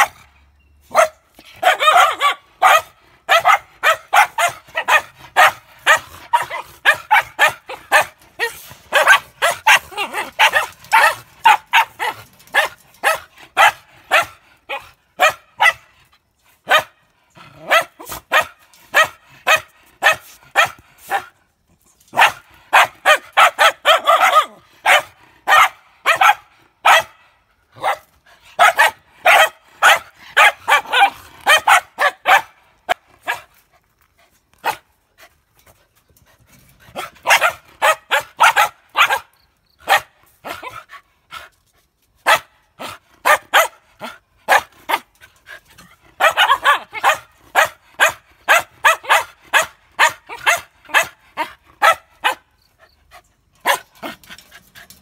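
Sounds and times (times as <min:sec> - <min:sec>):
small dogs barking: 0:00.9 - 0:15.9, 0:16.6 - 0:21.4, 0:22.0 - 0:33.5, 0:36.9 - 0:40.9, 0:42.2 - 0:52.5, 0:53.6 - 0:54.4.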